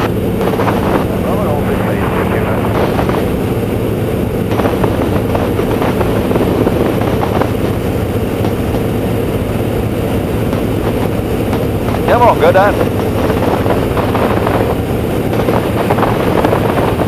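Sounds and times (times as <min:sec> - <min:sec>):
air rushing: 0:00.0 - 0:17.0
biplane engine running: 0:00.0 - 0:17.0.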